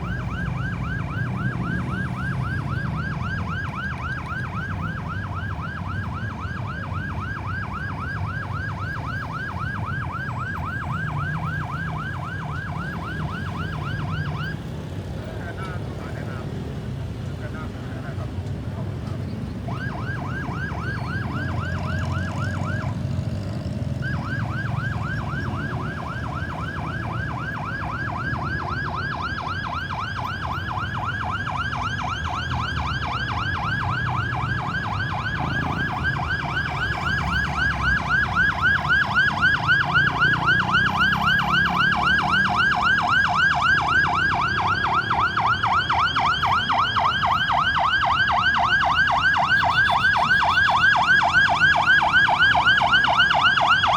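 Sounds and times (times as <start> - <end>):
ambulance siren yelping: 0.0 - 53.9.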